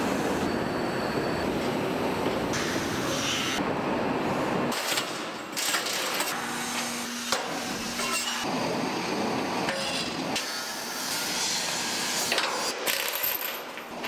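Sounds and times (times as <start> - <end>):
factory noise: 0.0 - 14.0.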